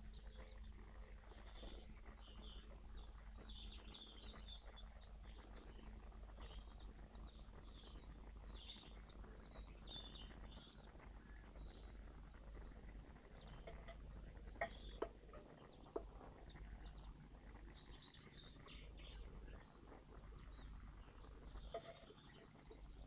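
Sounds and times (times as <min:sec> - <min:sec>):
faint songbirds chirping: 0:00.0 - 0:23.0
steady low hum: 0:00.0 - 0:23.0.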